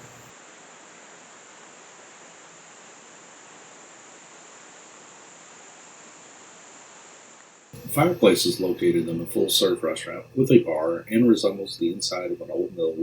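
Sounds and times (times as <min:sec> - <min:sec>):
flowing water hiss: 0:00.0 - 0:13.0.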